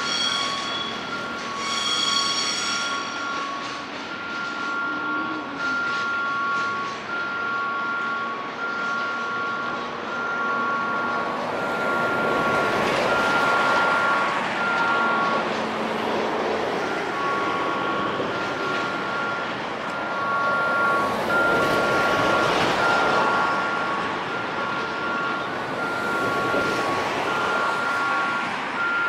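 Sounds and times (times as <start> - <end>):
two-note electronic warning tone: 0.0 - 16.0, 16.6 - 29.0
freight train rolling: 0.0 - 29.0.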